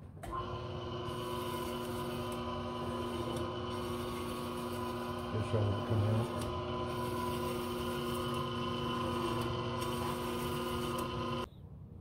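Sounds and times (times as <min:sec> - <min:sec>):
meat slicer motor whine: 0:00.2 - 0:11.5.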